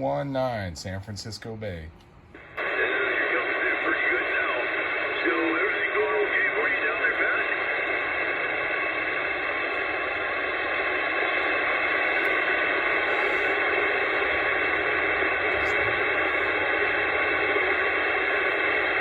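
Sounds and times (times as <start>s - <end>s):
radio static hiss: 2.4s - 19.0s.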